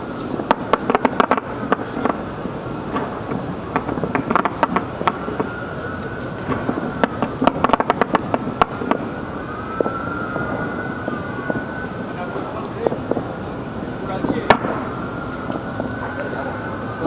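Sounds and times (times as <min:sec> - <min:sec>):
fireworks popping and crackling: 0:00.0 - 0:17.0
steady background noise: 0:00.0 - 0:17.0.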